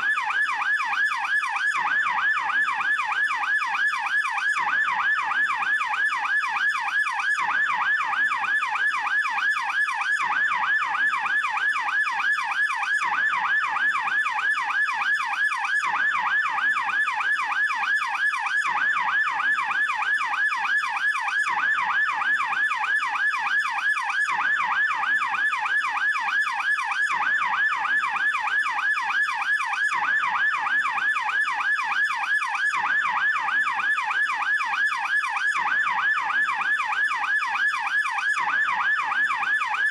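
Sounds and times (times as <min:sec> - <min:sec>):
police siren yelping: 0:00.0 - 0:39.9.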